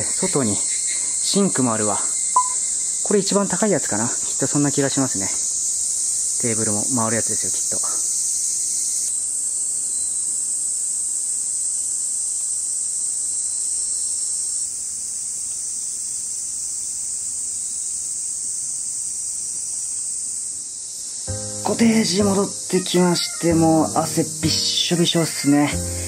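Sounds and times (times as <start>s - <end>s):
insects chorus: 0.0s - 26.0s.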